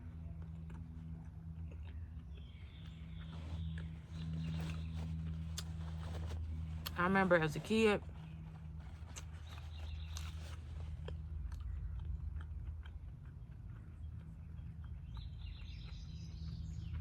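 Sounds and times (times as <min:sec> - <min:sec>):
chewing a sandwich: 0:00.0 - 0:17.0
steady low hum: 0:00.0 - 0:17.0.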